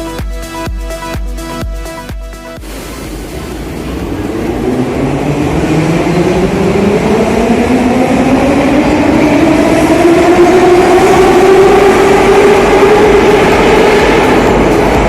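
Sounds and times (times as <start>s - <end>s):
rail rumble: 2.6s - 15.0s.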